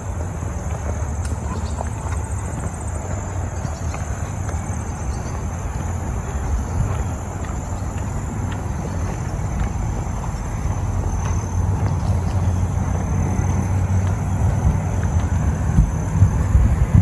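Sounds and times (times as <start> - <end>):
faint high insect drone: 0.0 - 17.0
wind buffeting microphone: 0.0 - 17.0.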